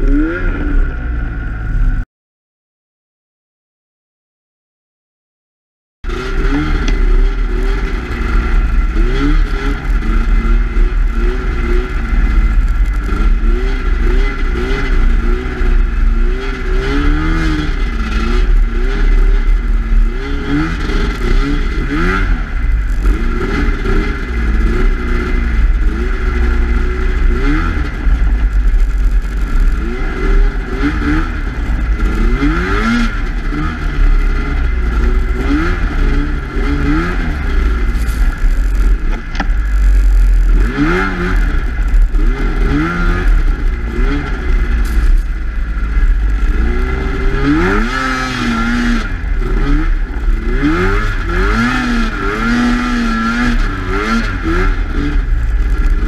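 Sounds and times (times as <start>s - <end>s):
snowmobile engine revving: 0.0s - 1.0s, 6.1s - 56.0s.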